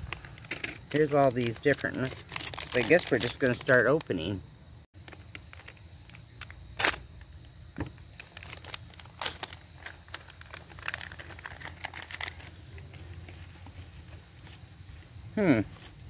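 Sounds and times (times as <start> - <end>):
plastic bag crinkling: 0.0 - 4.3, 5.0 - 15.0.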